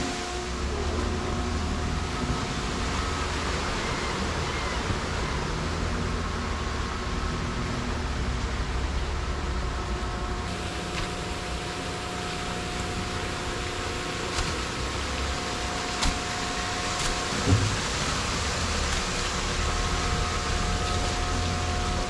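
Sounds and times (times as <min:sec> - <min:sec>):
machinery droning: 0:00.0 - 0:22.0.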